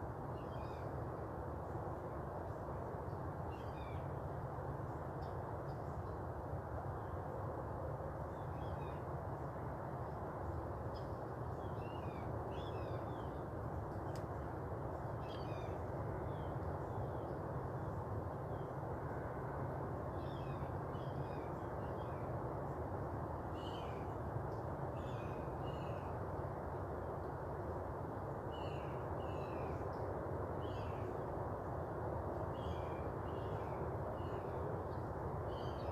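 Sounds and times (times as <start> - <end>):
low background noise: 0.0 - 35.9.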